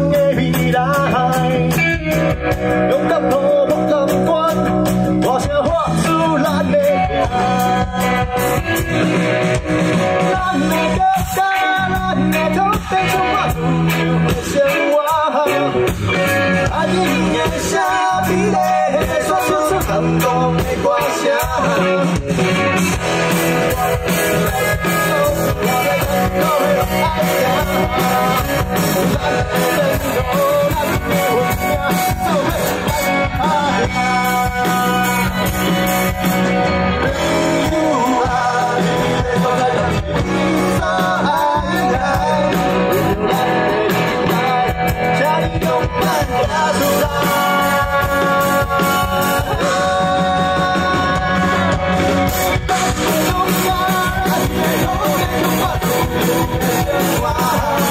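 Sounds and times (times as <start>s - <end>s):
bass guitar: 0.0s - 57.9s
drum kit: 0.0s - 57.9s
electric guitars: 0.0s - 57.9s.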